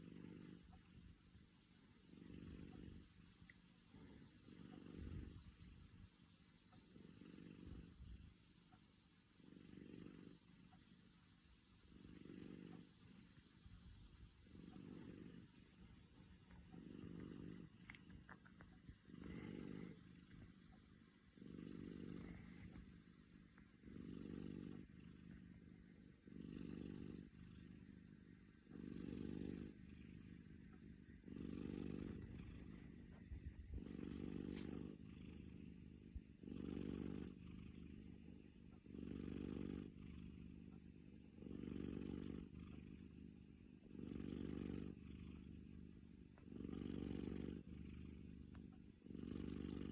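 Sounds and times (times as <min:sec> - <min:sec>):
cat snoring: 0:00.0 - 0:49.9.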